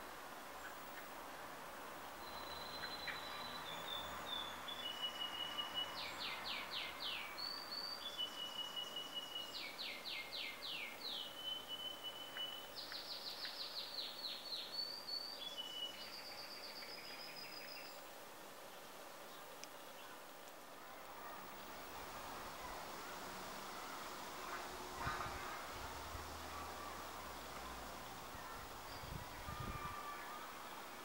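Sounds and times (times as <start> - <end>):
songbird singing: 2.0 - 31.0.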